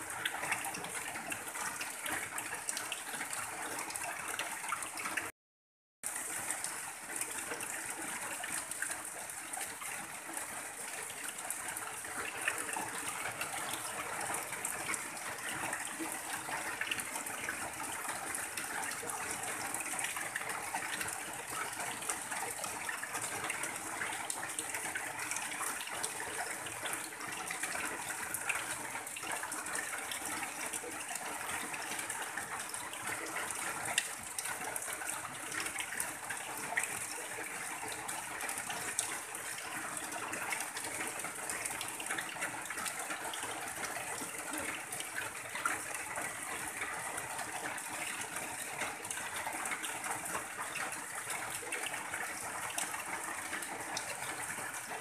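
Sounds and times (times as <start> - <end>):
rain on a tin roof: 0.0 - 5.3, 6.0 - 55.0
water pouring off roof edge: 6.1 - 55.0.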